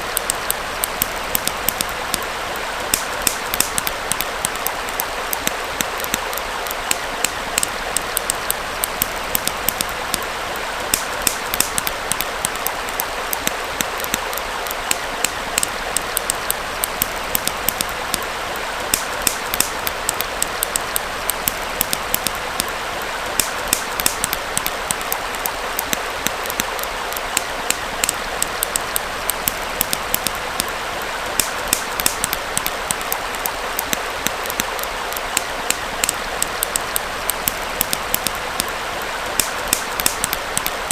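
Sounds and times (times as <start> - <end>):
small stream flowing: 0.0 - 40.9
wood fire crackling and popping: 0.0 - 40.9.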